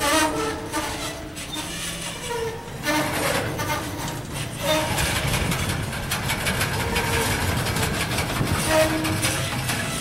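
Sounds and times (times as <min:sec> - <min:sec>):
boxcars rumbling: 0:00.0 - 0:10.0
train wheels clattering on rails: 0:00.0 - 0:10.0
wheel squeals: 0:00.0 - 0:10.0.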